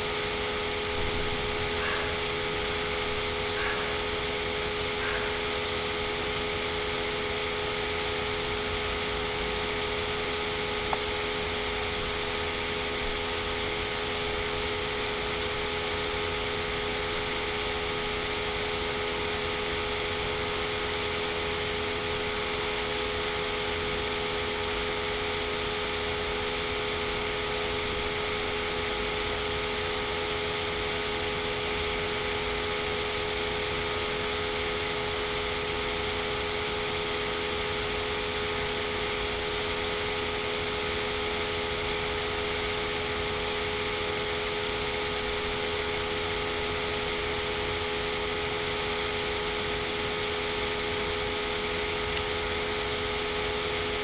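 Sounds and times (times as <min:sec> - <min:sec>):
steady hum and hiss with tones: 0:00.0 - 0:54.0.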